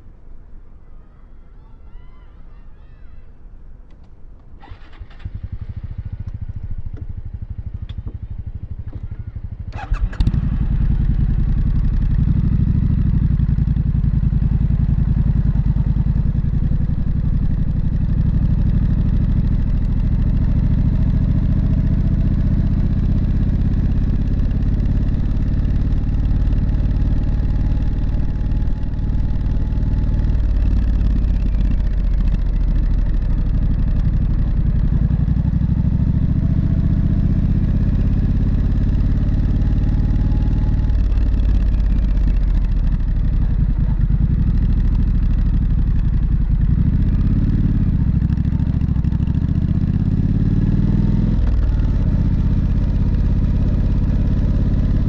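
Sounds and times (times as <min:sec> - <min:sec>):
motorcycle engine idling: 0:04.6 - 0:55.0.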